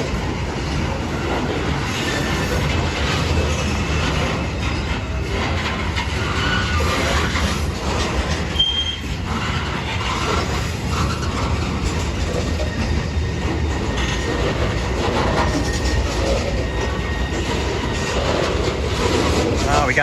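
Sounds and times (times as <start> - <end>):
freight train wheels rumbling: 0.0 - 20.0
high wheel squeal: 1.2 - 20.0.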